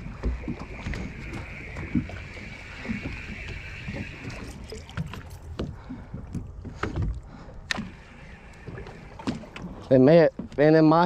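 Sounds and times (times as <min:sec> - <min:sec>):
water against boat hull: 0:00.0 - 0:11.0
wind: 0:00.0 - 0:11.0.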